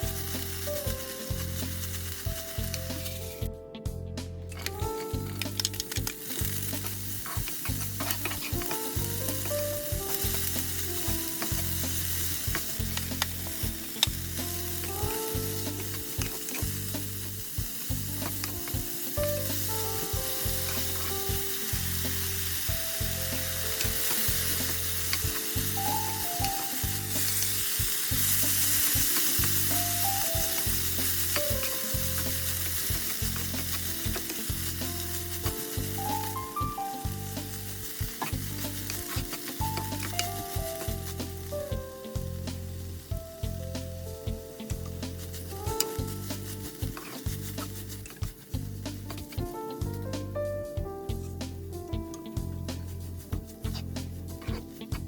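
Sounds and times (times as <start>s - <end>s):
food sizzling in a pan: 0.0s - 3.5s, 4.6s - 50.3s.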